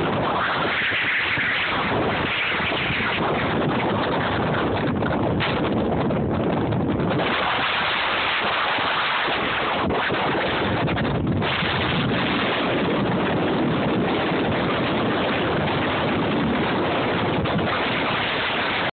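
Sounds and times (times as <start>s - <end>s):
wind blowing hard: 0.0s - 18.9s.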